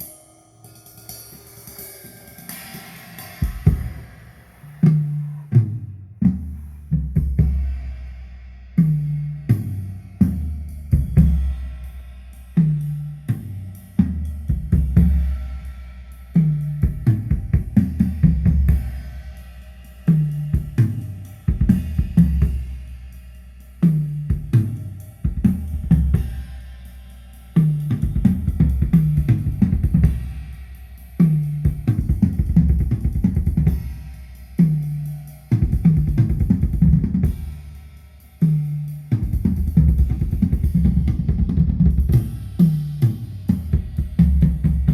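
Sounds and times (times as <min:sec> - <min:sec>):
drum-heavy music with bass: 0:00.9 - 0:44.9.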